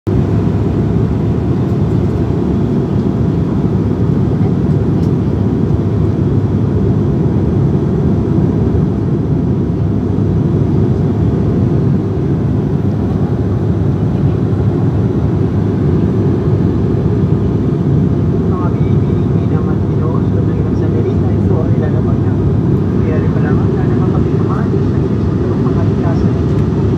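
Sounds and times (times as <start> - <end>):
airliner engine drone: 0.1 - 26.9.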